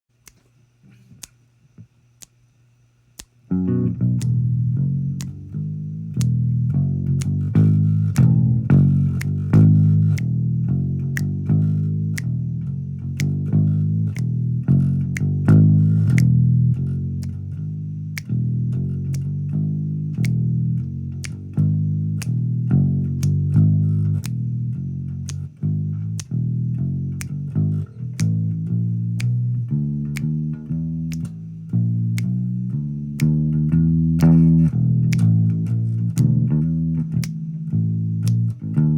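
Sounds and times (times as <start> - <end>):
ticking beat: 3.1 - 38.9
bass guitar riff: 3.5 - 38.9.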